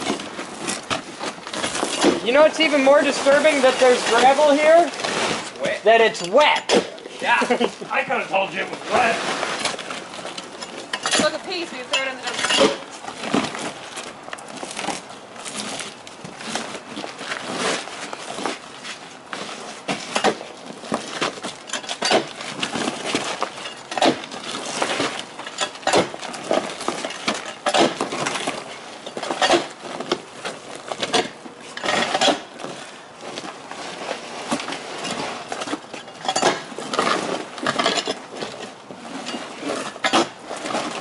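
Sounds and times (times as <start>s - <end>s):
roofing gravel crunching: 0.0s - 41.0s.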